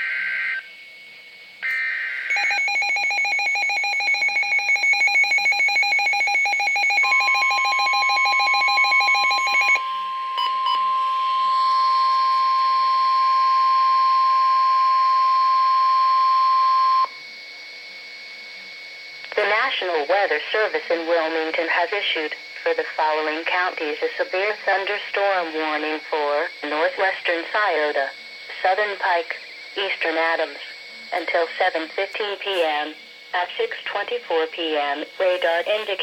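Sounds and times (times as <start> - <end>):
steady warning tone: 0.0 - 36.0.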